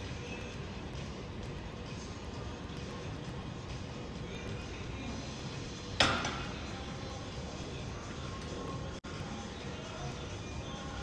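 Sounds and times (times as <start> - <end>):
faint music playing: 0.0 - 11.0
gym hall background noise: 0.0 - 11.0.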